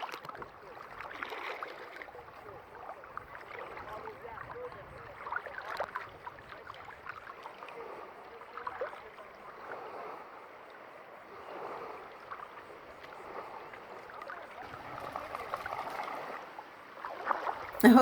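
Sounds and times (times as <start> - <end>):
small waves lapping: 0.0 - 18.0.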